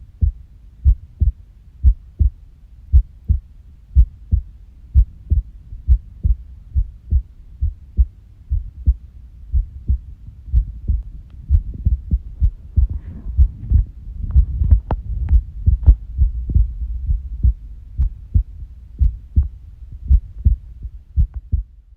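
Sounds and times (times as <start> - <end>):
irregular heartbeat thumps: 0.0 - 21.9.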